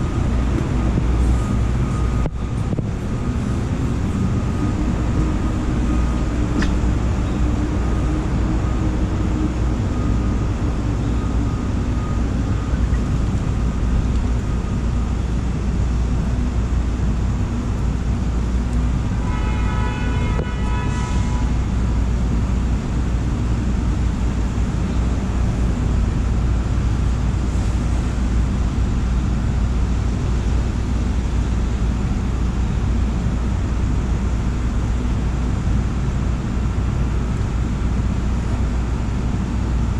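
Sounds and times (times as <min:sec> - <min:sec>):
subway train rumble: 0:00.0 - 0:39.9.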